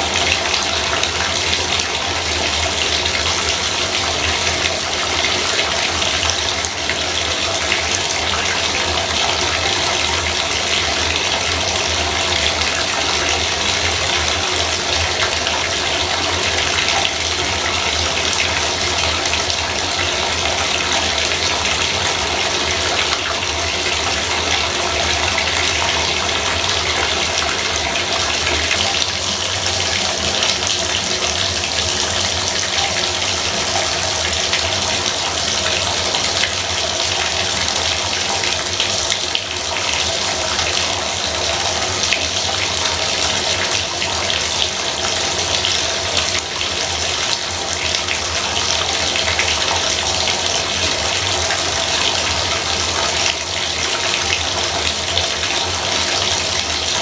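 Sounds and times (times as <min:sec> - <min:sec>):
bathtub faucet running: 0:00.0 - 0:57.0.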